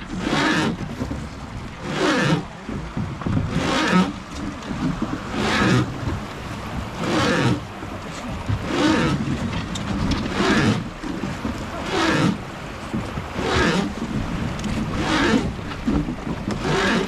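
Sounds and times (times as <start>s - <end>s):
water splashing from oar strokes: 0.0s - 17.0s.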